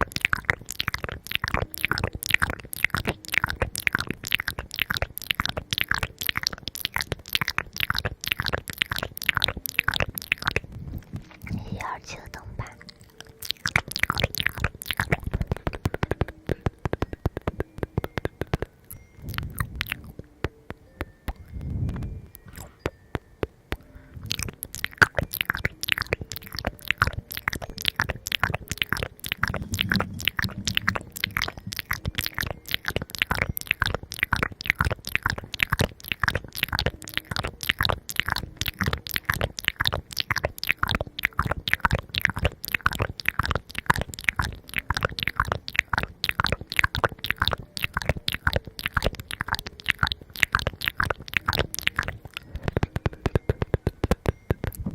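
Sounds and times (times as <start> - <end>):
chewing crunchy food: 0.0 - 54.9.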